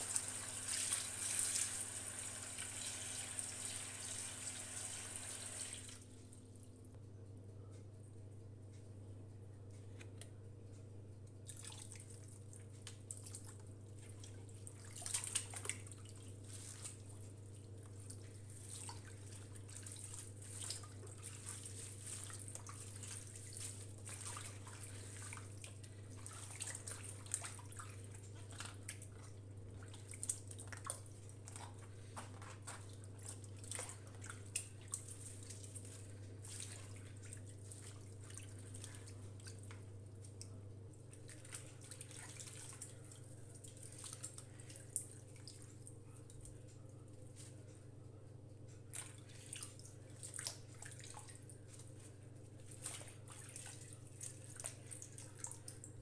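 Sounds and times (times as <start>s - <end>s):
water splashing in a sink: 0.0s - 6.1s, 11.4s - 46.6s, 48.9s - 56.0s.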